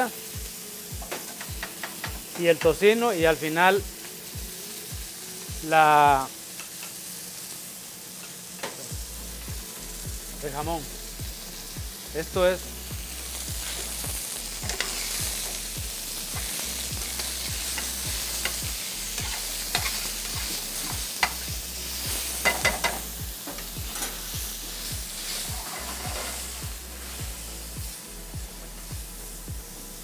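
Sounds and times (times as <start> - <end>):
meat sizzling in oil: 0.0 - 30.0.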